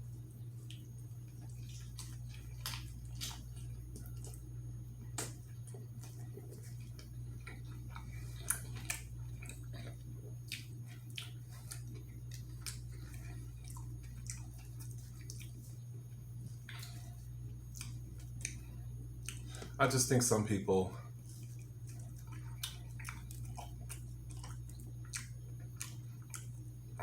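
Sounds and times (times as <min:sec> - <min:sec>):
low electrical hum: 0:00.0 - 0:27.0
chewing with wet mouth clicks: 0:00.5 - 0:19.8, 0:21.0 - 0:27.0.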